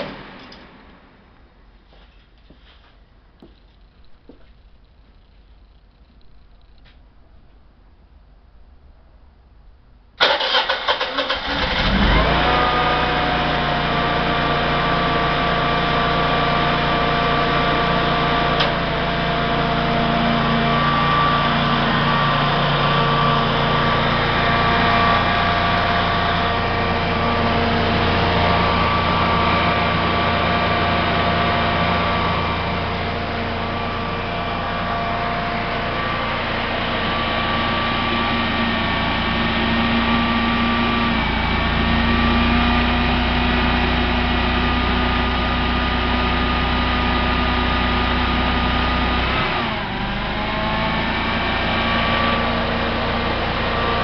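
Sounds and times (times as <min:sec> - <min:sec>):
generator engine running: 0:10.2 - 0:54.0.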